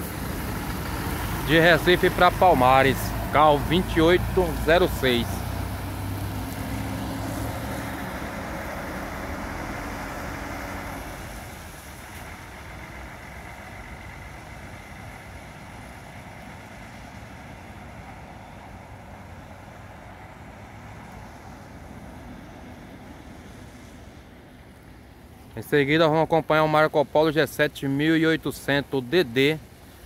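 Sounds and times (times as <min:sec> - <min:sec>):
bus engine running: 0:00.0 - 0:25.7
distant traffic: 0:00.0 - 0:30.0
wind: 0:00.0 - 0:30.0.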